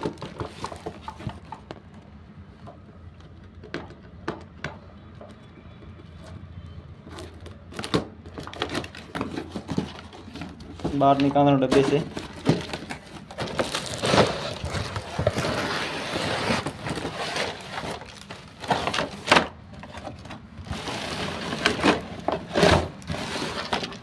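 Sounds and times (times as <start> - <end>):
packaging rustling and crinkling: 0.0 - 3.7, 7.1 - 24.0.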